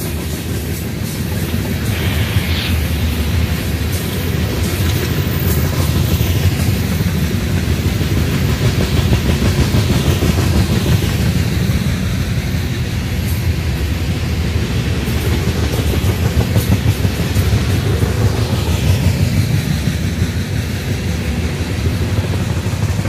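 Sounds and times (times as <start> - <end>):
freight train cars rumbling past: 0.0 - 23.0.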